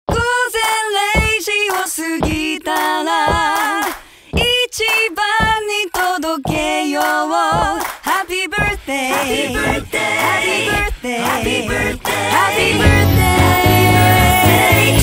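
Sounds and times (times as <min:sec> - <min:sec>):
woman singing song: 0:00.1 - 0:15.0.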